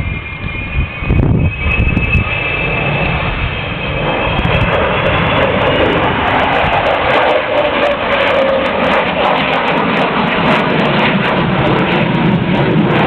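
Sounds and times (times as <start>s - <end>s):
jet aircraft flying past: 0.0s - 13.0s.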